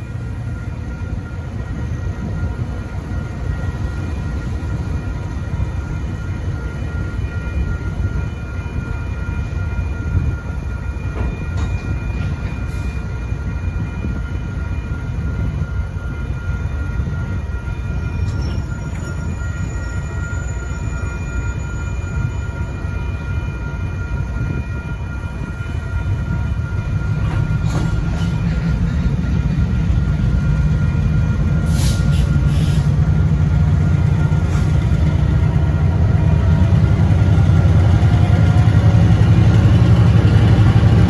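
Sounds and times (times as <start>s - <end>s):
crossing bells ringing: 0.0s - 41.0s
diesel locomotive engines rumbling: 0.0s - 41.0s.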